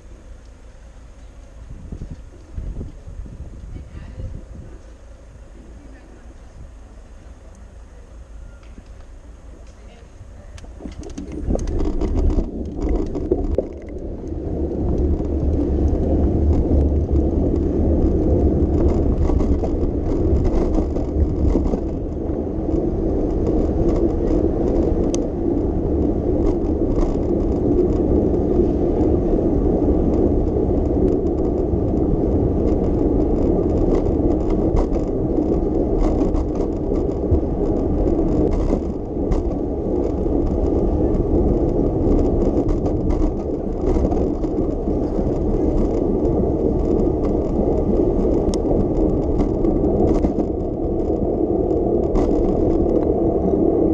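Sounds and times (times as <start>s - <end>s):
bicycle tyre road rumble: 0.0s - 53.9s
bike rattles and clicks: 0.0s - 53.9s.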